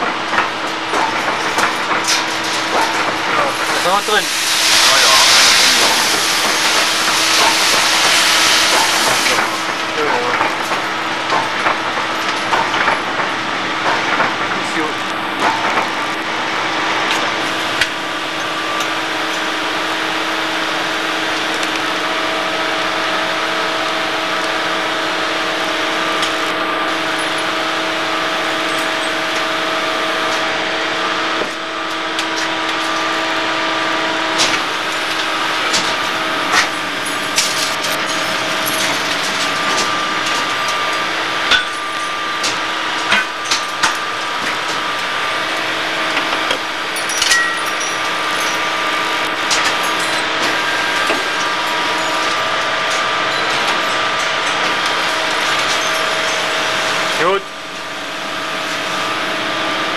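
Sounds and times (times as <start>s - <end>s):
lathe machine hum: 0.0s - 59.9s.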